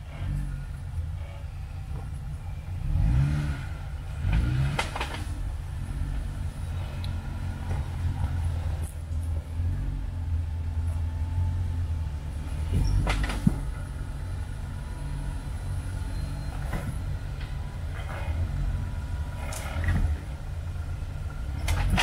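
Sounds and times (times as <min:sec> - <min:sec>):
engine revving: 0:00.0 - 0:22.0
engine running at low revs: 0:00.0 - 0:22.0.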